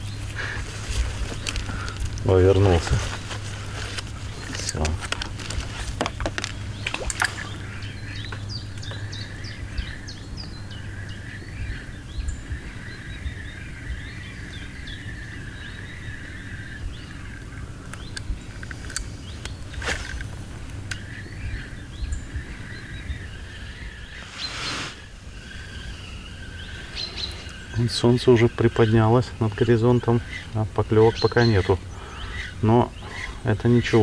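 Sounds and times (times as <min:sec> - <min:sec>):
steady low rumble: 0:00.0 - 0:28.0
small birds chirping: 0:00.0 - 0:34.0.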